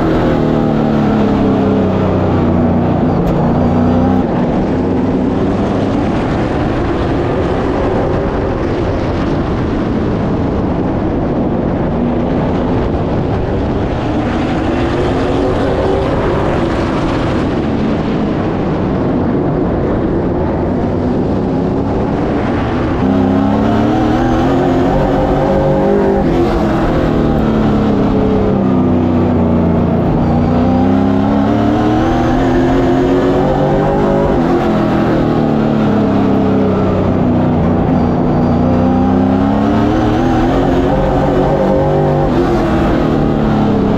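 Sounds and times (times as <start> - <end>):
race car engine revving: 0.0 - 19.7, 20.5 - 43.9.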